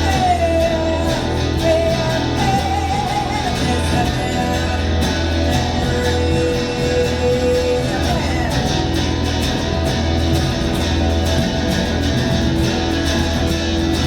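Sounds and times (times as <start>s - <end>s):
live band music led by guitar: 0.0s - 14.0s
strong bass: 0.0s - 14.0s.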